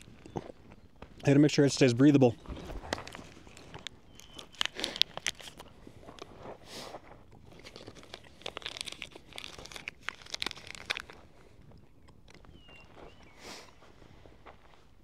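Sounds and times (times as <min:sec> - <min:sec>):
crunching and crinkling rustles: 0:00.0 - 0:15.0.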